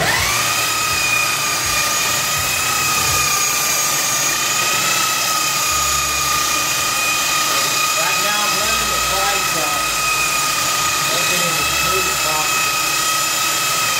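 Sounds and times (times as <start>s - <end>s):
electric belt sander whining: 0.0s - 13.9s.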